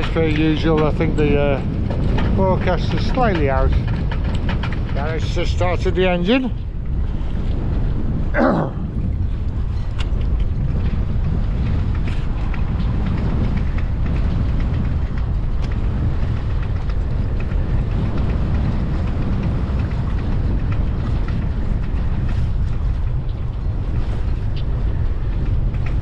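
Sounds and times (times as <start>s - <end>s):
faint clicks and knocks: 0.0s - 7.8s, 9.0s - 26.0s
boat engine running: 0.0s - 26.0s
wind buffeting microphone: 0.0s - 26.0s.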